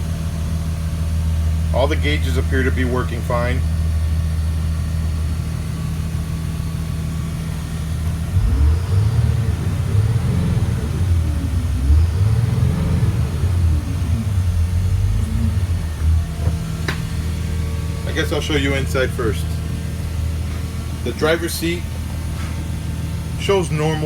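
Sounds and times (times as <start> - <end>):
diesel bus engine idling and revving: 0.0 - 24.0.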